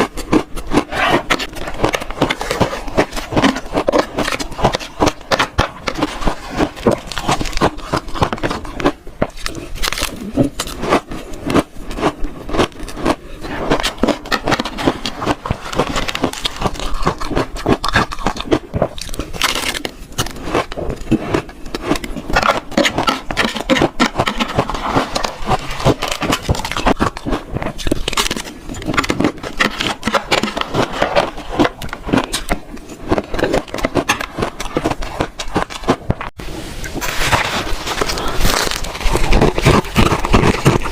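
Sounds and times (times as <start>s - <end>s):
chewing and crunching shaved ice: 0.0s - 40.9s.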